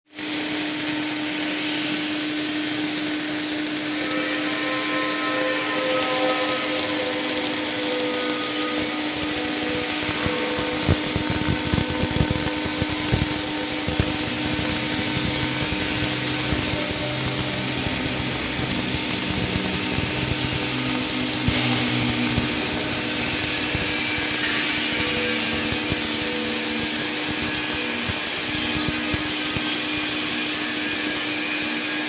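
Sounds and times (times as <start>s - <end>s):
welding arc buzzing: 0.0s - 32.0s
welding crackling pops: 0.1s - 32.0s.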